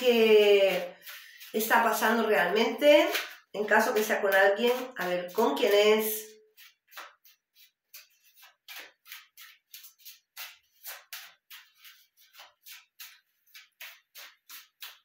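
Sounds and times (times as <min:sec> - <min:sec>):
cards being shuffled: 0:00.6 - 0:02.3, 0:03.0 - 0:05.7, 0:06.6 - 0:15.0.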